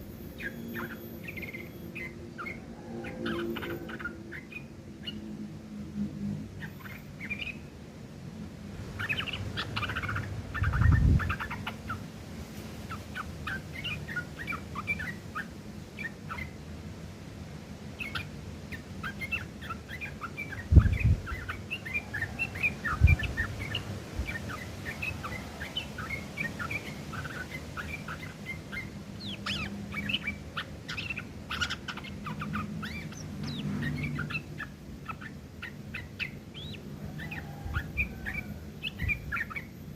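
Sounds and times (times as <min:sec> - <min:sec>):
bird chattering song: 0:00.0 - 0:05.5, 0:06.5 - 0:07.8, 0:09.0 - 0:12.1, 0:12.8 - 0:16.7, 0:17.9 - 0:39.9.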